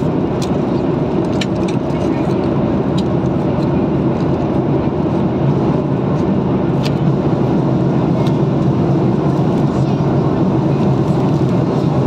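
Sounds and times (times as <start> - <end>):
jet cabin engine drone: 0.0 - 12.0.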